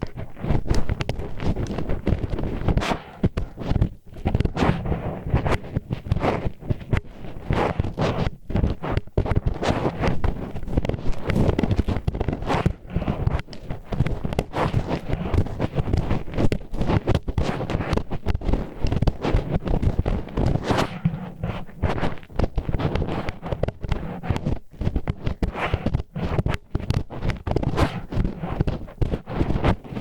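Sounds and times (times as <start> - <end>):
wooden chopsticks scraping microphone: 0.0 - 30.0.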